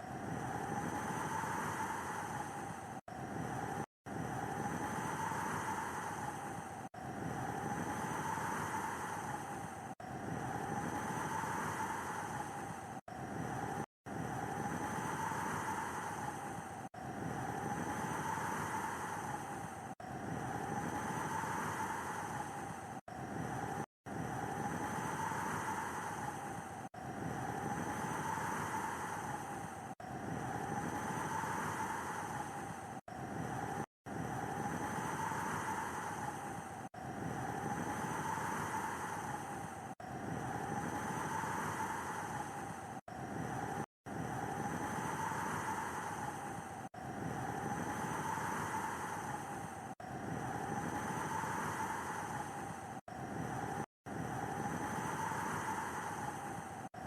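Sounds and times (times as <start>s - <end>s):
snowstorm wind: 0.1s - 57.0s.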